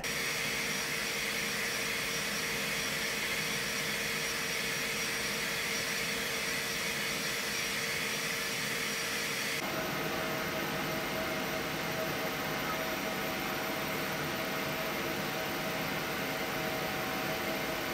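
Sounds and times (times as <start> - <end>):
whooshing machine noise: 0.0 - 17.9.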